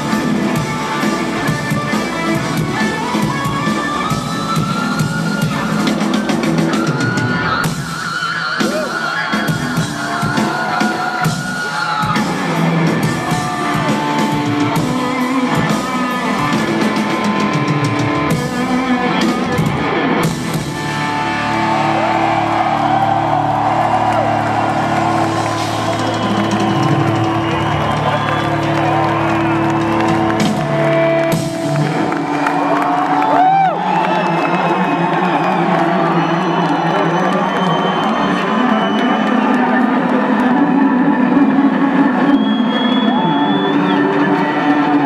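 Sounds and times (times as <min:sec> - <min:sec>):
bass guitar: 0:00.0 - 0:08.0, 0:08.7 - 0:38.2
drums: 0:00.0 - 0:45.0
electric guitar: 0:00.0 - 0:45.0.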